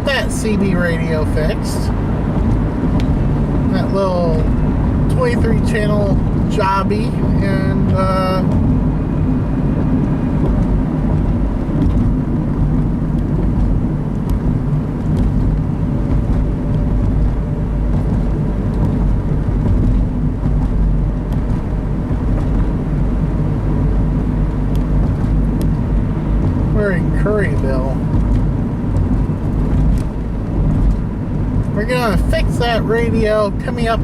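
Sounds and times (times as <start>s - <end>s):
car cabin road rumble: 0.0s - 34.0s.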